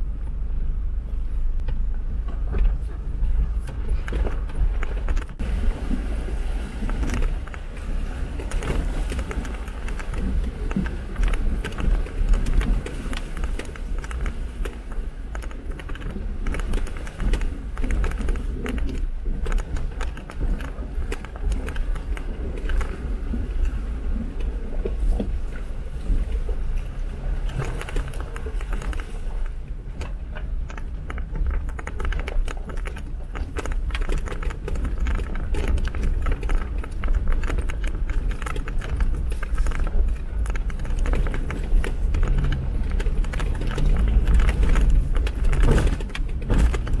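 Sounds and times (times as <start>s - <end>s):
engine and road rumble: 0.0s - 47.0s
rattling and crunching clicks: 1.6s - 5.4s, 6.8s - 23.8s, 24.4s - 47.0s.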